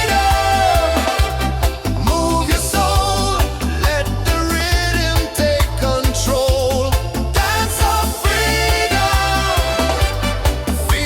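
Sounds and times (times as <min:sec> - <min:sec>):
reggae music: 0:00.0 - 0:11.0.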